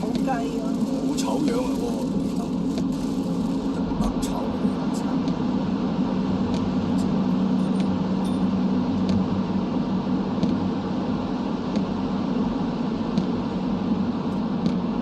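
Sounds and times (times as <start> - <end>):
car road noise and engine hum: 0.0 - 15.0.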